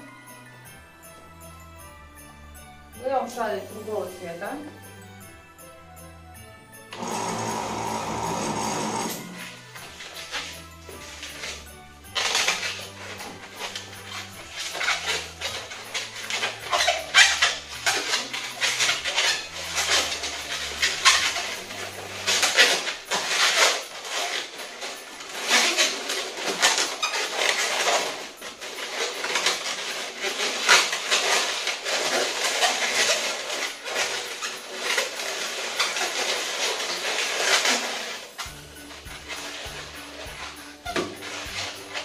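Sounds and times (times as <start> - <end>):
balloon squeaking and rubbing: 6.9 - 42.0.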